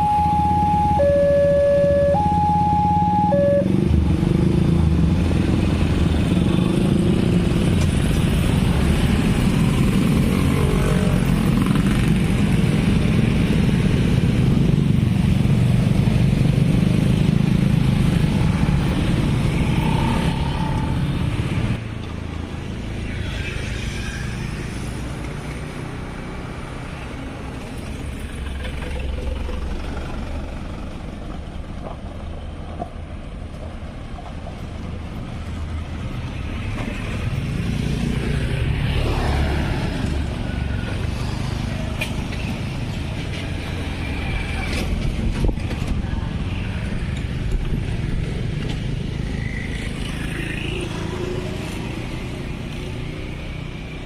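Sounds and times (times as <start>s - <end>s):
motorcycle and car engines passing: 0.0s - 31.8s, 35.4s - 54.0s.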